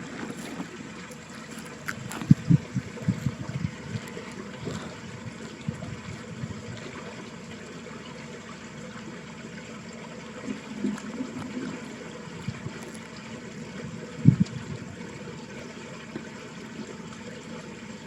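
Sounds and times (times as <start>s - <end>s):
water trickling in a ditch: 0.0s - 18.0s.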